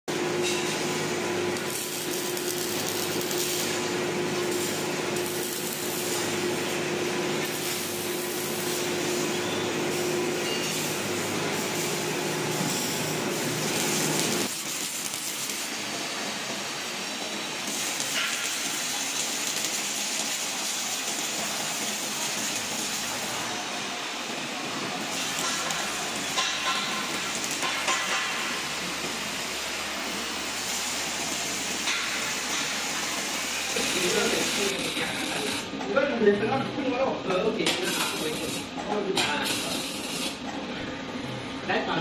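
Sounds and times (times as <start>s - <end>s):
welding arc crackling and hissing: 0.1s - 40.5s.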